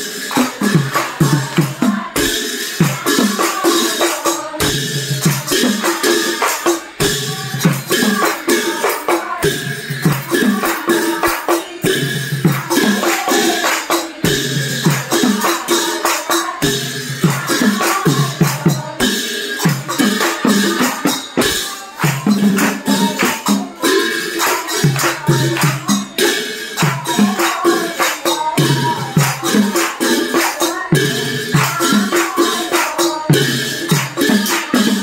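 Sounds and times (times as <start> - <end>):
hand cymbals clashing: 0.0 - 35.0
hand drums beaten quickly: 0.0 - 35.0.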